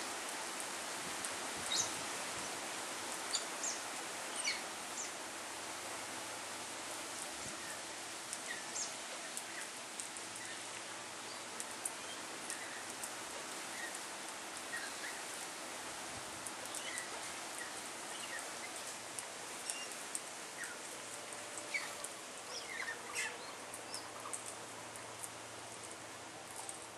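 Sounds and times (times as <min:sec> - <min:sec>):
steady outdoor hiss: 0:00.0 - 0:26.9.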